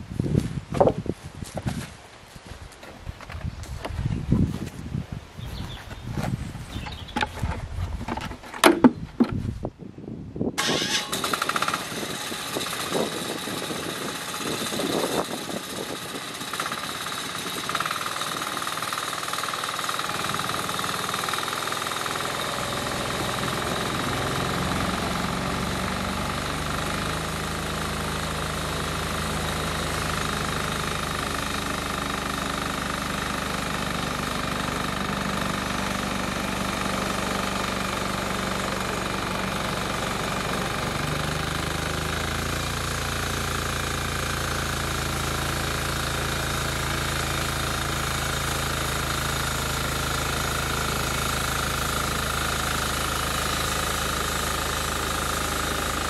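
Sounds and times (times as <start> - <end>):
sawmill engine running: 10.6 - 56.0.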